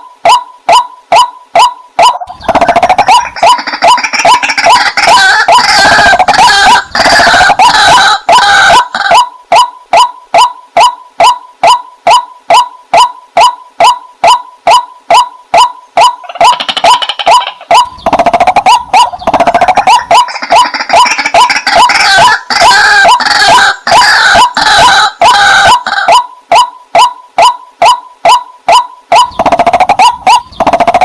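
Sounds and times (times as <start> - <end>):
overlapping bird calls: 0.0 - 31.0
waterhen calling: 0.0 - 31.0.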